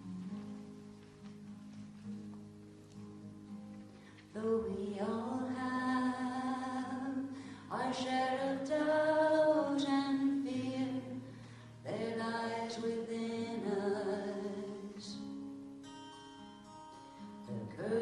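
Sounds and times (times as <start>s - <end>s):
acoustic guitar chord: 0.0s - 18.0s.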